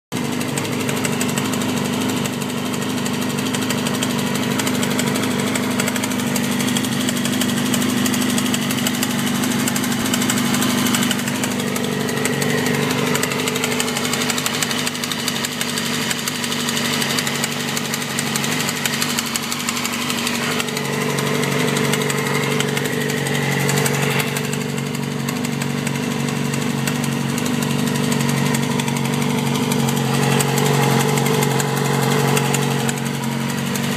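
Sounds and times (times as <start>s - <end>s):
engine ticking: 0.1s - 33.9s
motorcycle engine idling: 0.1s - 33.9s.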